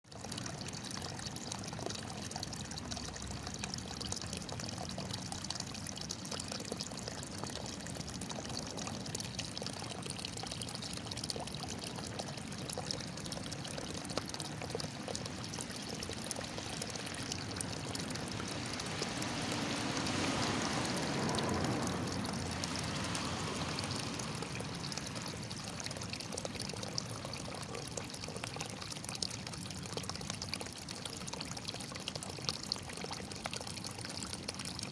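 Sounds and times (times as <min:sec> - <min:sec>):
water running and splashing: 0:00.0 - 0:34.9.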